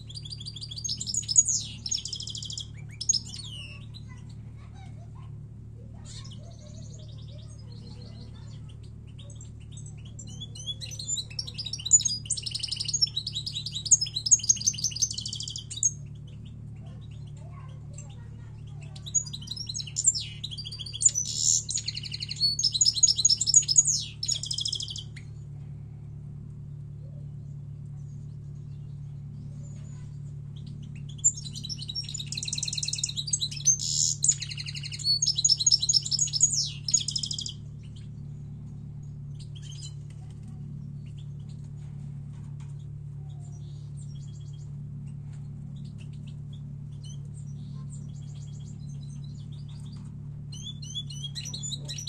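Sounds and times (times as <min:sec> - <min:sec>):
bird twittering song: 0:00.0 - 0:52.0
steady low hum: 0:00.0 - 0:52.0.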